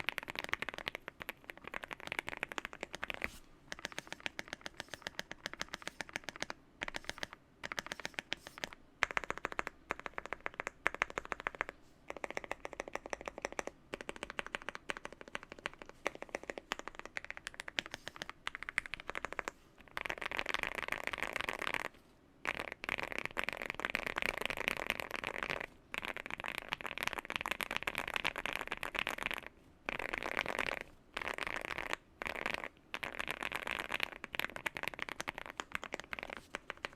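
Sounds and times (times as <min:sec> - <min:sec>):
fast typing on mechanical keyboard: 0:00.0 - 0:36.9.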